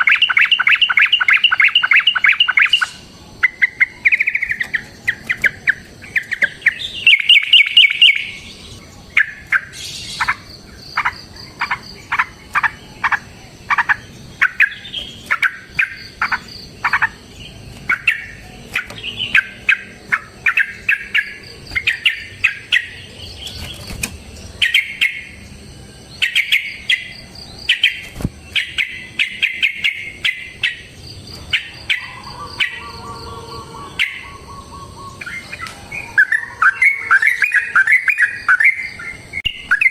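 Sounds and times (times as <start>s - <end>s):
bulbul singing chirps and trills: 0.0s - 39.9s.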